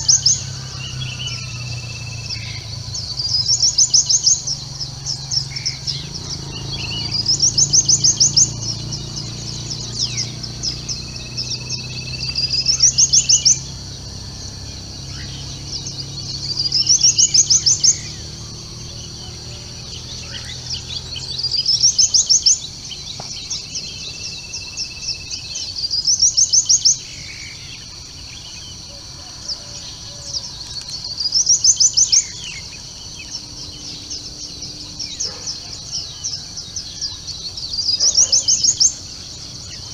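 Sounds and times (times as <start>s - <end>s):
birds chirping softly: 0.0s - 39.9s
songbird trill: 0.0s - 39.9s.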